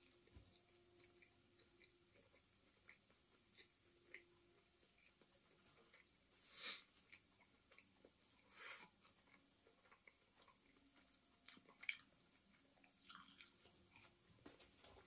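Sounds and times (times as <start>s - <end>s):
faint chewing of food: 0.0s - 15.0s.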